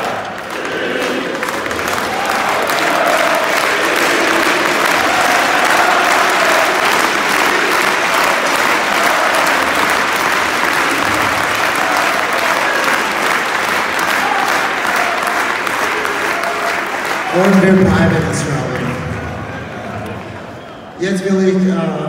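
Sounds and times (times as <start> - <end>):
large crowd applauding: 0.0 - 21.6.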